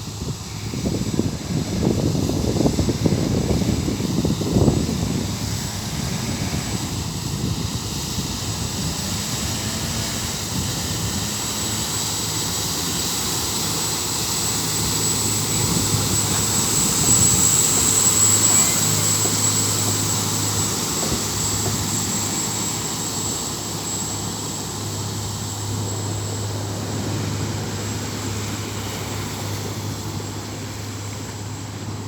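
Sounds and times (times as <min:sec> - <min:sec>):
boat diesel engine drone: 0:00.0 - 0:32.0
high steady whine: 0:00.0 - 0:32.0.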